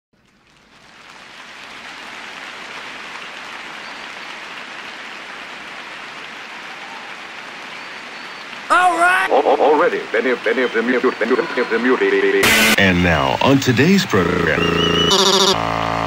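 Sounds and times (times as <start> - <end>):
steady rain-like hiss: 0.2 - 14.6.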